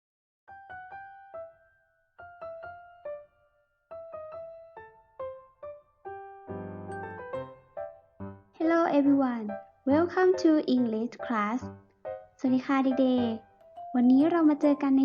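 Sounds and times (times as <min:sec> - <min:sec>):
simple piano melody: 0:00.5 - 0:15.0.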